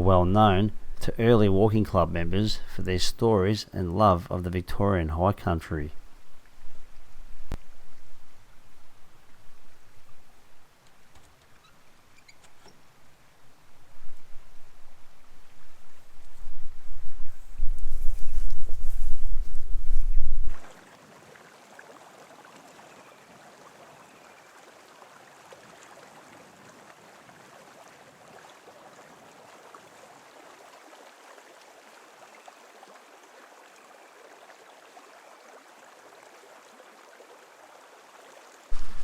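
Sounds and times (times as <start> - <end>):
creek water running: 0.0 - 16.5, 19.6 - 39.0.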